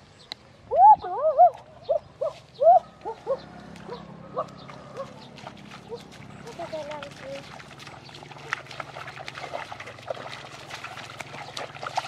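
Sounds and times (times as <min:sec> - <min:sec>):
ducks calling: 0:01.0 - 0:12.0.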